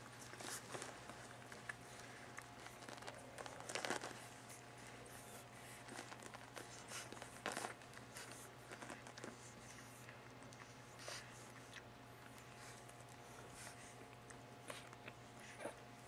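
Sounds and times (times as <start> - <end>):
puppies snuffling and suckling: 0.0 - 16.0
steady low hum: 0.0 - 16.0.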